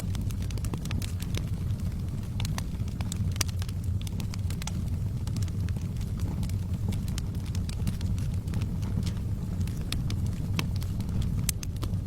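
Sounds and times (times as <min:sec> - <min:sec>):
fire crackles and pops: 0:00.0 - 0:12.0
low rumble of flames: 0:00.0 - 0:12.0.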